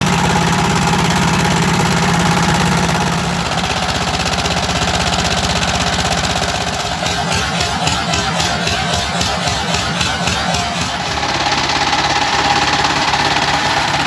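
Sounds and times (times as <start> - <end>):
rice milling machine pulsing: 0.0 - 14.0.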